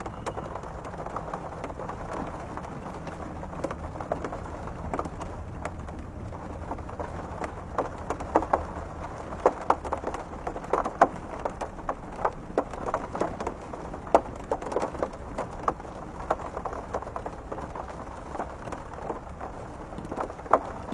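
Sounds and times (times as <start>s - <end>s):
low steady rumble: 0.0s - 20.9s
raindrops striking a window: 0.0s - 20.9s.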